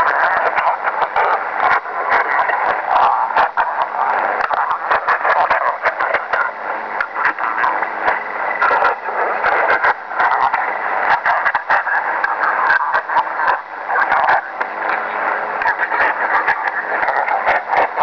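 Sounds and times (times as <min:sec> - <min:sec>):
faint low hum: 0:00.0 - 0:18.0
garbled distorted radio signal: 0:00.0 - 0:18.0.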